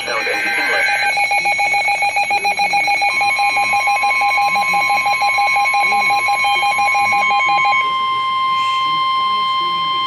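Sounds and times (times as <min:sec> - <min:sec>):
fast pulsing electronic beep: 0:00.0 - 0:10.0
steady warning alarm tone: 0:00.0 - 0:10.0.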